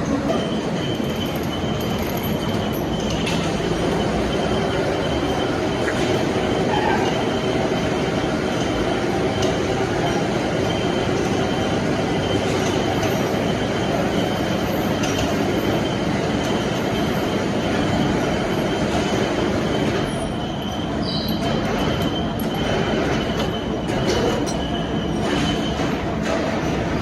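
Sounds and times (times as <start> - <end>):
heavy machinery running: 0.0 - 27.0.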